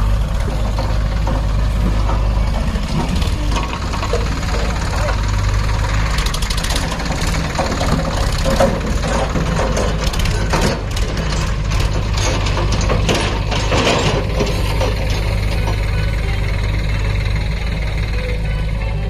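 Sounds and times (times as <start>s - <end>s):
metallic clanks and scraping: 0.0s - 18.6s
diesel engines idling: 0.0s - 19.0s.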